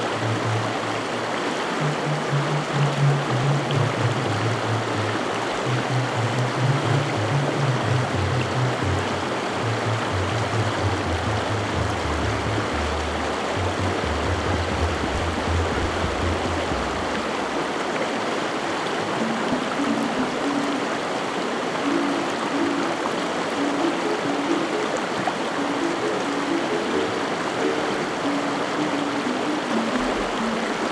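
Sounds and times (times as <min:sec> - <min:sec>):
soft music with held notes: 0:00.0 - 0:17.6, 0:19.0 - 0:30.9.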